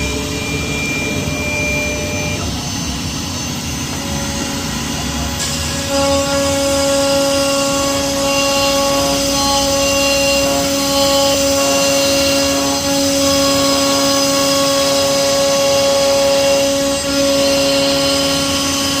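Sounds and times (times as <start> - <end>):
router spindle whine: 0.0 - 19.0.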